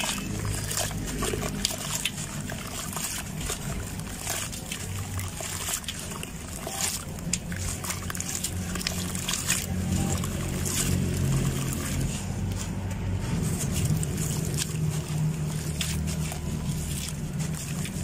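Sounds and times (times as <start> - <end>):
crumbling gritty lumps: 0.0 - 18.0.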